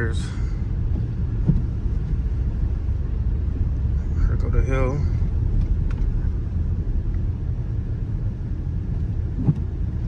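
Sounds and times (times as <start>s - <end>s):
car driving rumble from inside: 0.0s - 10.0s.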